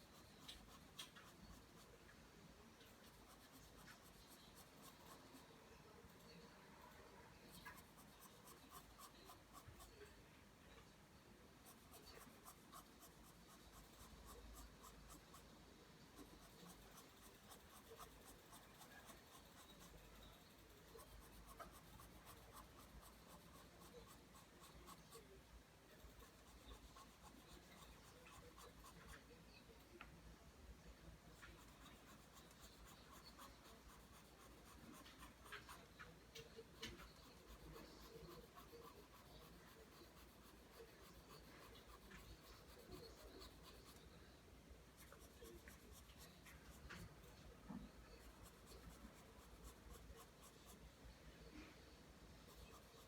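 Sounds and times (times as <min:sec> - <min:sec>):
pencil scratching on paper: 0:00.0 - 0:02.0, 0:02.8 - 0:10.1, 0:11.6 - 0:15.5, 0:16.1 - 0:29.6, 0:31.3 - 0:44.2, 0:44.9 - 0:51.0, 0:52.3 - 0:53.0.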